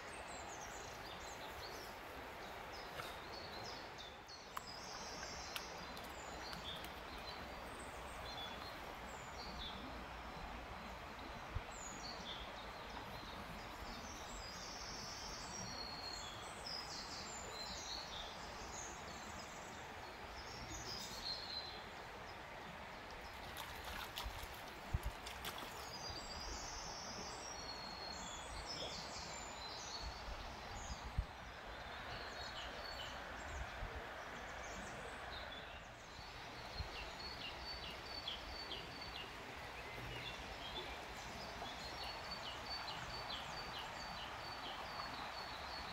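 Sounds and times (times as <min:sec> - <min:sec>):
river water rushing: 0:00.0 - 0:45.9.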